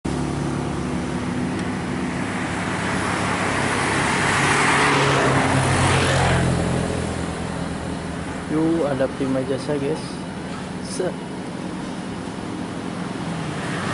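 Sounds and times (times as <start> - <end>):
deep engine drone: 0.0 - 13.9
diesel truck engines climbing: 0.0 - 13.9
vehicle tyre noise passing: 0.0 - 13.9.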